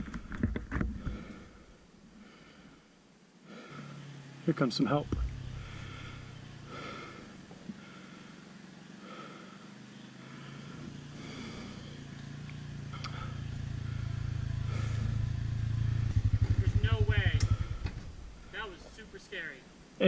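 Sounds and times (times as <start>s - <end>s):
utility vehicle engine hum: 0.0s - 20.0s.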